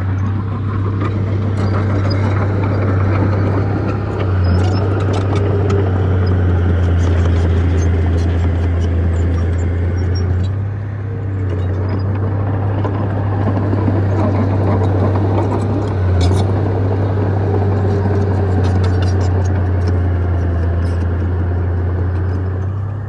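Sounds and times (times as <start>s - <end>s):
bulldozer diesel engine: 0.0s - 23.0s.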